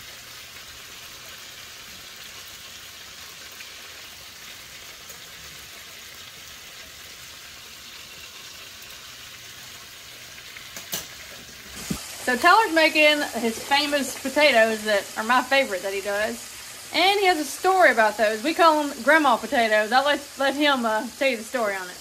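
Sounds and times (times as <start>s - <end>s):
fish frying in hot oil: 0.0s - 22.0s.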